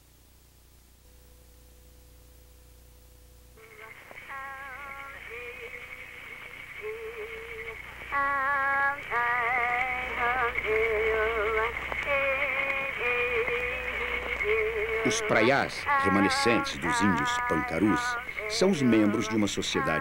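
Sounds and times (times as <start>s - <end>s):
steady high held tone: 0.0s - 20.0s
voices singing warbling melody: 3.6s - 20.0s.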